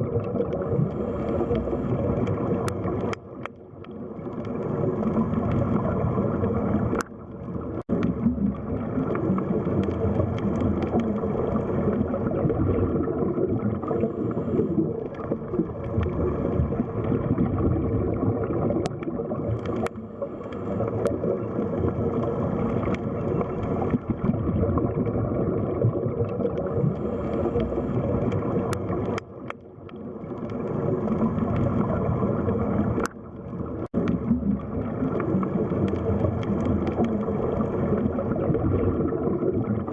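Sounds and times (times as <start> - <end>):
muffled underwater water rush: 0.0 - 39.9.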